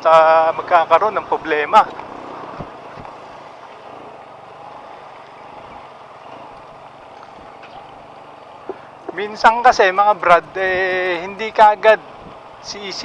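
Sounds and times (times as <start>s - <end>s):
faint engine hum: 0.0s - 13.0s
motorcycle and street traffic: 0.0s - 13.0s.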